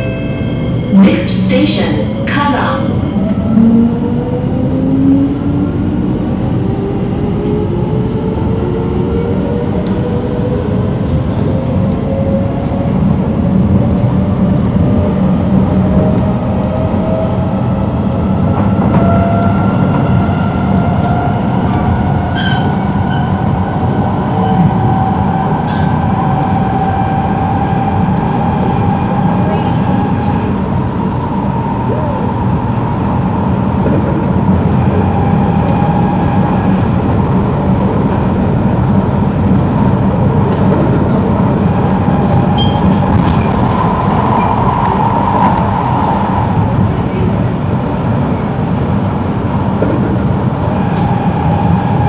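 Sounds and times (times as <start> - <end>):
train rumbling on rails: 0.0 - 52.0.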